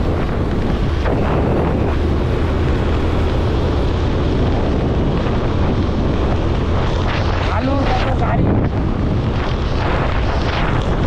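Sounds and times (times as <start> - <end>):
motorcycle engine droning: 0.0 - 11.0
road noise: 0.0 - 11.0
wind rush over microphone: 0.0 - 11.0.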